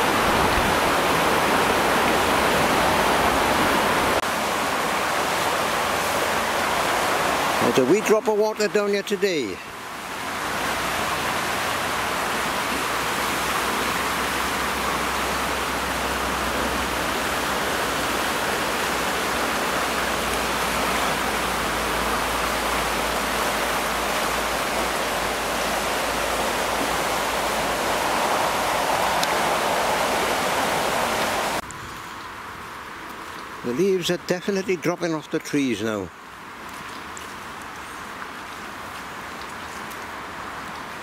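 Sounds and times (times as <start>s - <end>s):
rushing floodwater: 0.0s - 41.0s.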